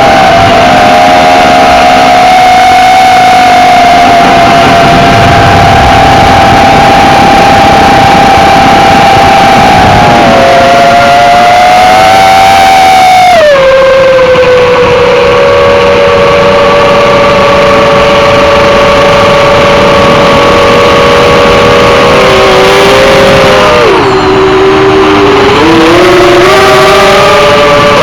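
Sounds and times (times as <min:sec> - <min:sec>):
drone motors whining: 0:00.0 - 0:28.0
loud rushing noise: 0:00.0 - 0:28.0.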